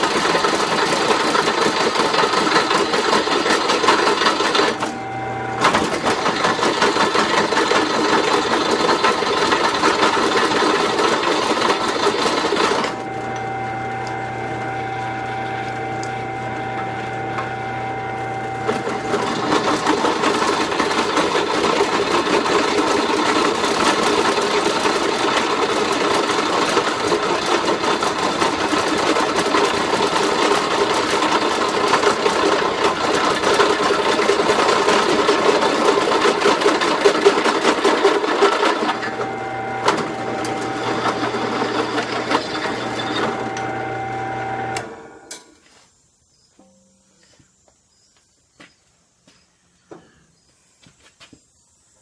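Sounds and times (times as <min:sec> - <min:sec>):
drill bit grinding through steel: 0:00.0 - 0:44.9
drill motor running: 0:00.0 - 0:45.3.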